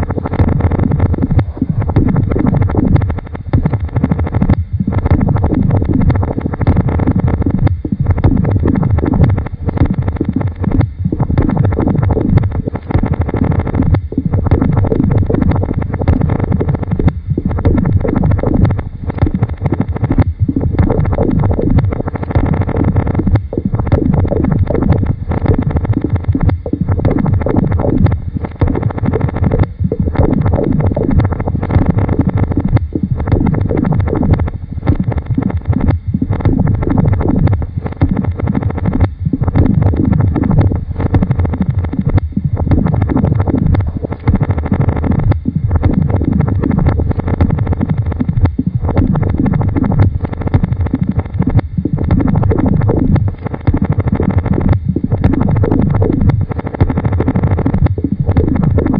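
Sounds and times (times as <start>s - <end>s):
low electronic noise mass: 0.0s - 58.9s.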